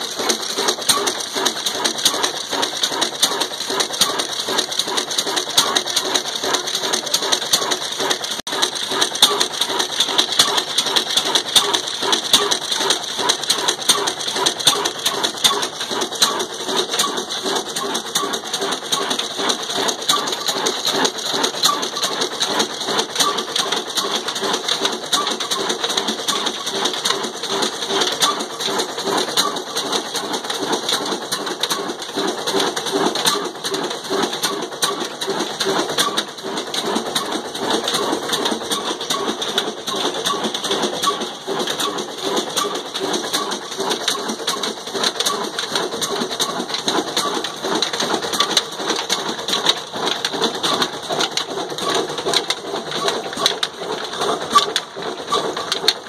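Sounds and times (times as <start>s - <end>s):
stationary diesel engine chugging: 0.0s - 56.0s.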